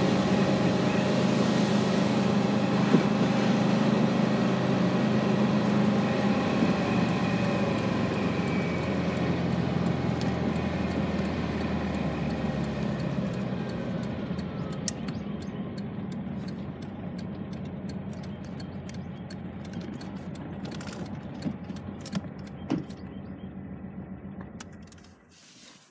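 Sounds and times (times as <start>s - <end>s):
car engine running: 0.0s - 25.4s.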